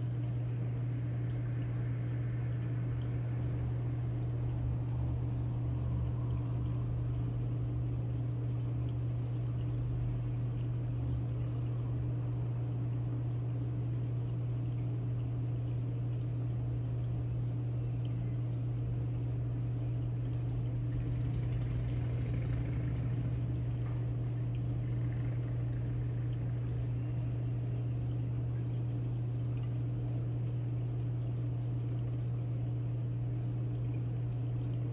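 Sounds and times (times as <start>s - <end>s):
low hum: 0.0s - 34.9s
water pouring and trickling: 0.0s - 34.9s.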